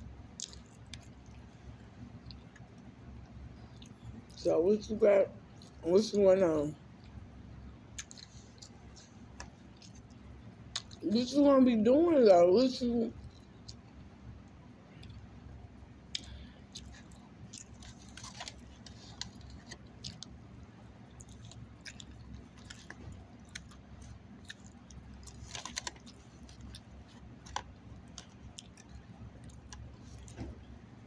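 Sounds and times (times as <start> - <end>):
person chewing food: 0.0 - 4.4, 6.8 - 11.0, 13.2 - 31.0
steady low hum: 0.0 - 31.0.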